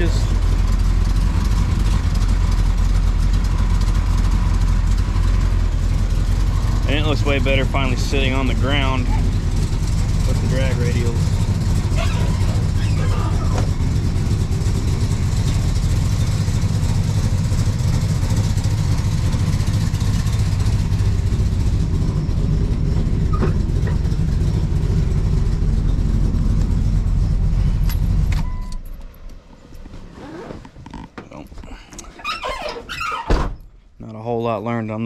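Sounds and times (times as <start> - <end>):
car engine idling: 0.0 - 29.8.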